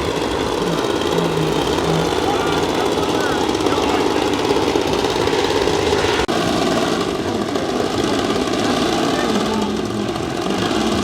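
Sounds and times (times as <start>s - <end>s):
model airplane engine running: 0.0s - 11.0s.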